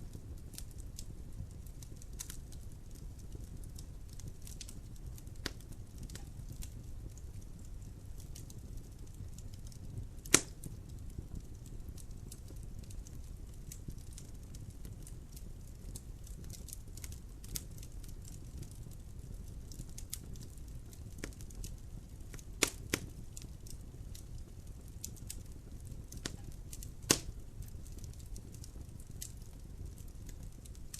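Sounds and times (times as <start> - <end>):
fire crackling: 0.0 - 30.9
loud sharp pops of fire: 0.1 - 30.9.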